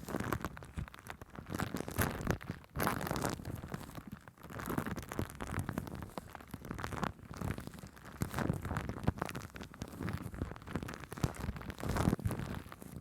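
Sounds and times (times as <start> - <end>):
shaving foam crackling and squishing: 0.0 - 13.0.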